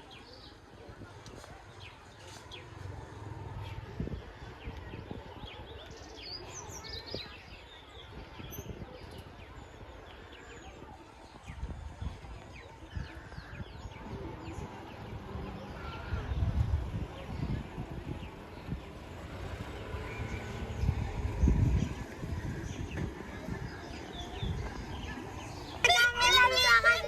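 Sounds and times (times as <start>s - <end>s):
faint background voices: 0.0s - 27.0s.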